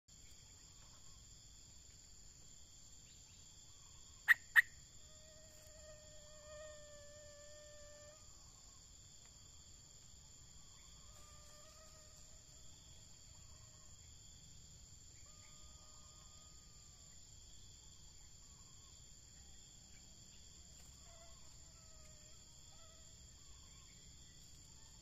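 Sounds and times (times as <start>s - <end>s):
insects droning: 0.1s - 25.0s.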